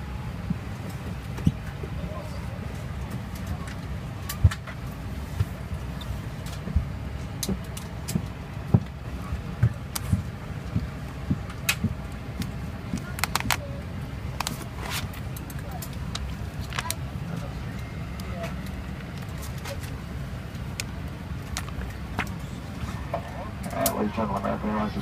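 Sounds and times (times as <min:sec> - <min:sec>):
airliner cabin hum: 0:00.0 - 0:25.0.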